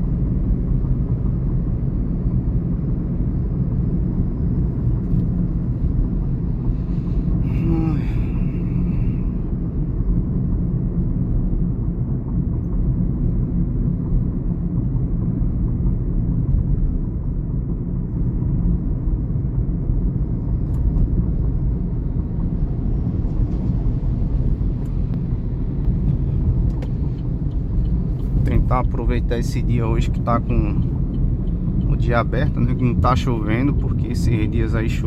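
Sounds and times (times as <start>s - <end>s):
road and engine rumble in car cabin: 0.0s - 35.0s.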